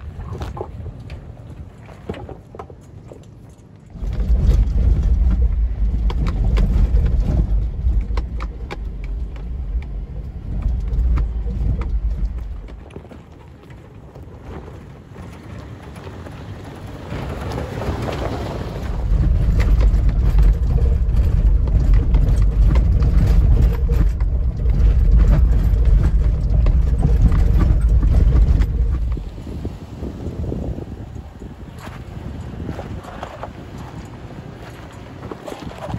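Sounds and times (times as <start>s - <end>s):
tyres crunching over stones: 0.0s - 29.6s, 31.6s - 35.9s
vehicle low rumble: 0.0s - 35.9s.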